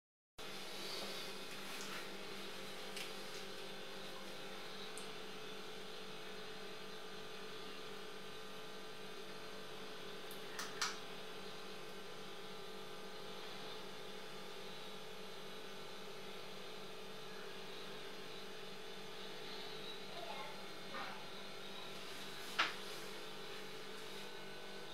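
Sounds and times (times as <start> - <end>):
electrical hum: 0.4 - 24.9.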